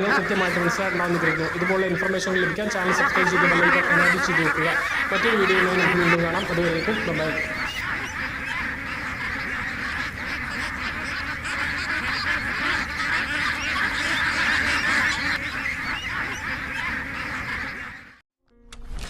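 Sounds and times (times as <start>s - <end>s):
flock of ducks quacking: 0.0s - 18.2s.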